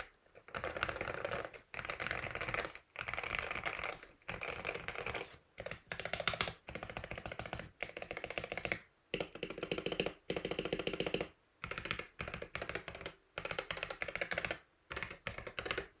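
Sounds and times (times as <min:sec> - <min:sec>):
keyboard keystrokes clacking: 0:00.0 - 0:15.9.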